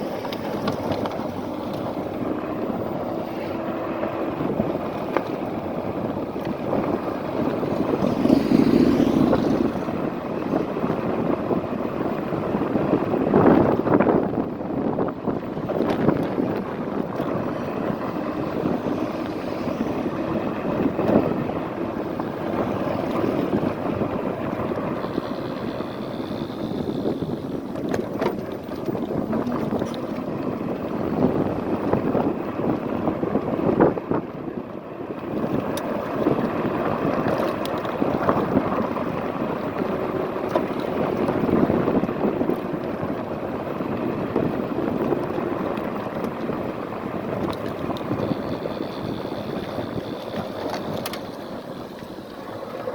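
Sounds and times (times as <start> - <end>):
road noise: 0.0 - 52.9
wind rushing over microphone: 0.0 - 52.9.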